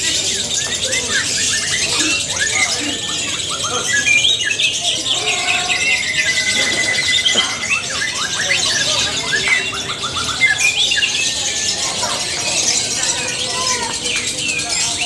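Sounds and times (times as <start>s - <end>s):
bird chirping and trilling: 0.0s - 15.0s.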